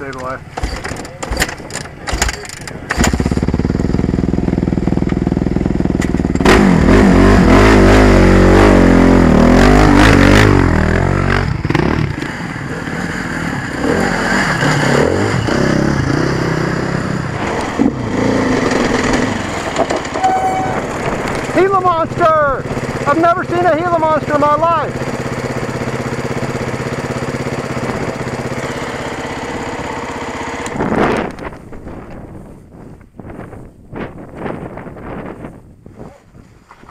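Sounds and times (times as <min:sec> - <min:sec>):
dirt bike engine revving: 0:00.0 - 0:31.3.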